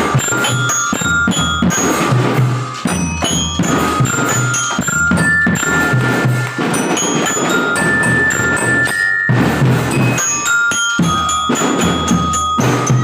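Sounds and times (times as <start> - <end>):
drum beat: 0.0 - 13.0
glockenspiel melody: 0.0 - 13.0.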